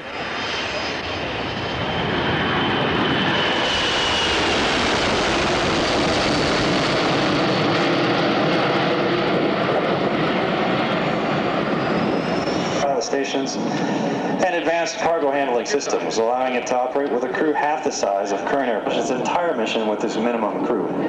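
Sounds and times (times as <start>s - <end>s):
jet aircraft flying past: 0.0s - 21.0s.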